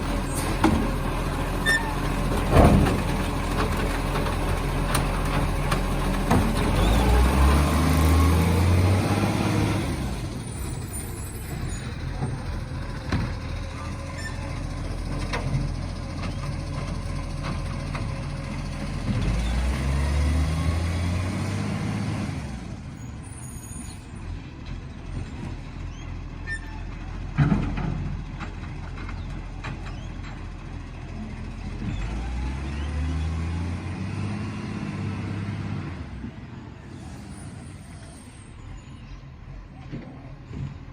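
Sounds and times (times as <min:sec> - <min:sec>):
garbage truck diesel engine revving: 0:00.0 - 0:39.0.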